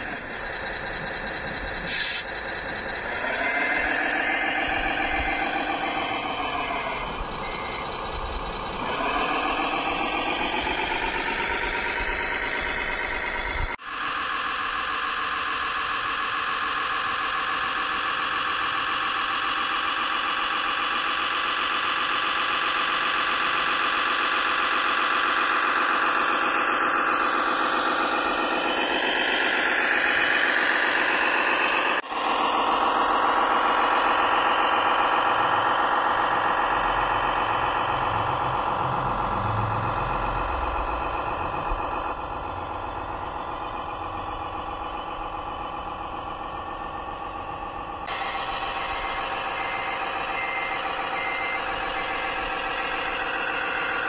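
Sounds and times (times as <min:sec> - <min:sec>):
simulated diesel engine running: 0:00.0 - 0:54.0.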